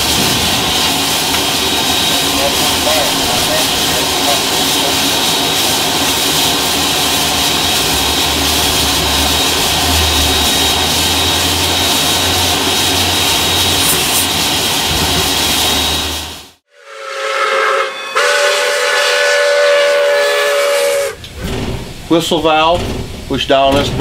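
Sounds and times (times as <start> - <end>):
steam roaring and hissing: 0.0 - 24.0.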